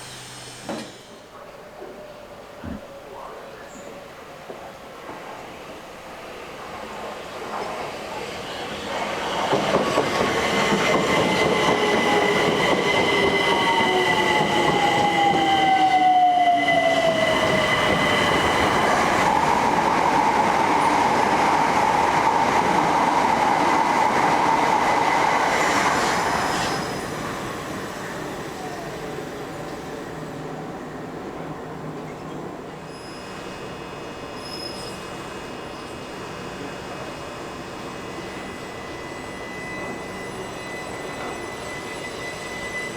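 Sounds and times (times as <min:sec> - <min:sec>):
electric train whining: 0:00.0 - 0:01.6, 0:05.4 - 0:42.9.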